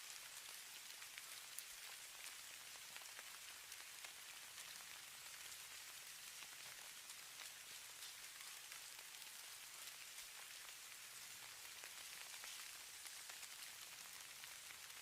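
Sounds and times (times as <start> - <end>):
hiss of falling snow: 0.0 - 15.0
light pattering ticks: 0.2 - 15.0.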